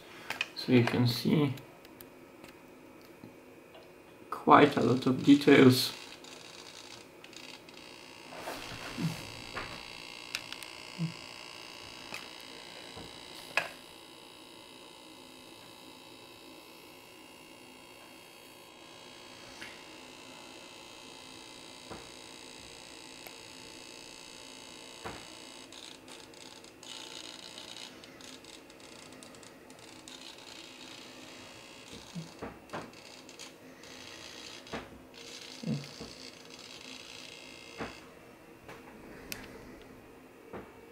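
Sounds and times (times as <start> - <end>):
room hum: 0.0 - 40.9.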